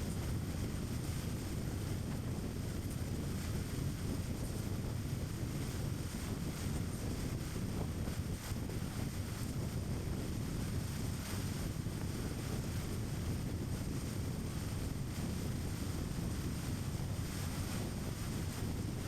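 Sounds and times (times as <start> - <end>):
wind noise: 0.0 - 19.0.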